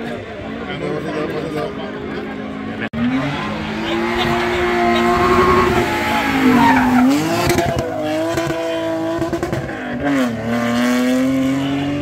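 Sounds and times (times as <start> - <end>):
rally car engine at high revs: 2.3 - 12.0.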